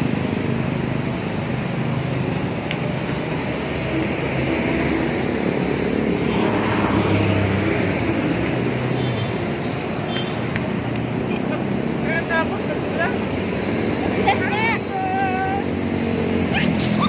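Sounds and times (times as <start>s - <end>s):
heavy road traffic: 0.0s - 17.0s.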